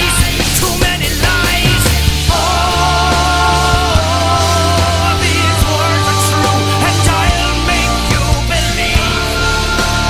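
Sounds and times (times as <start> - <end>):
hard rock music: 0.0 - 10.0.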